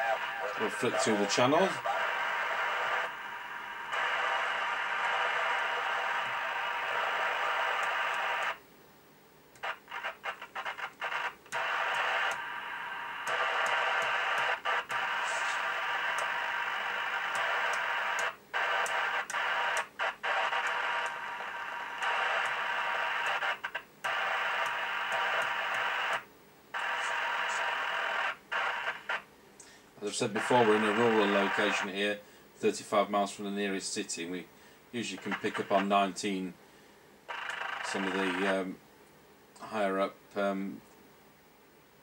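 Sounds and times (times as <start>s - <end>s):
radio static hiss: 0.0s - 8.6s, 9.6s - 36.6s, 37.3s - 38.8s, 39.6s - 40.8s.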